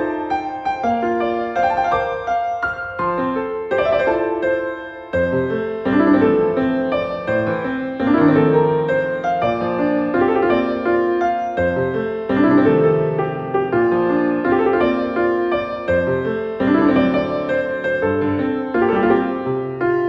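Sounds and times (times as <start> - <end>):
solo piano: 0.0 - 20.0.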